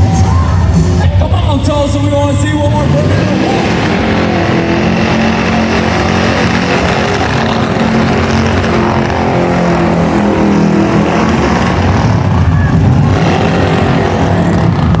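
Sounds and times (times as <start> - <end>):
car engine revving high: 2.3 - 15.0.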